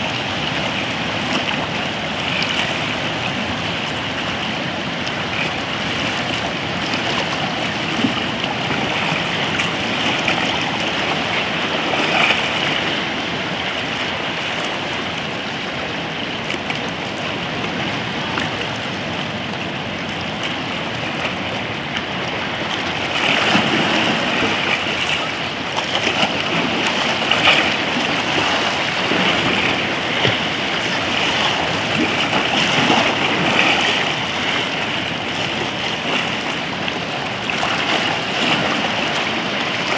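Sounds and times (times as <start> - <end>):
waves lapping around rocks: 0.0 - 39.9.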